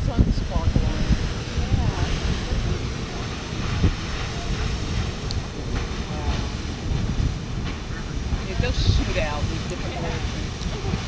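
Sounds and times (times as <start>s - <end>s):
geyser rushing water and steam: 0.0s - 11.0s.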